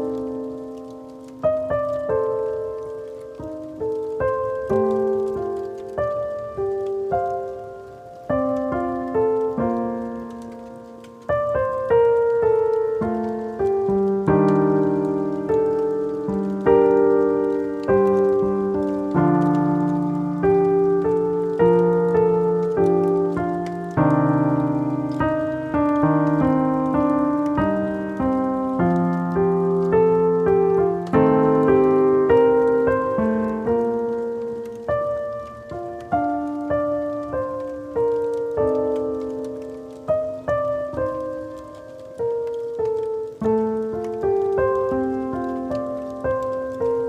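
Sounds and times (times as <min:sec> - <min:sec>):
slow gentle piano music: 0:00.0 - 0:47.0.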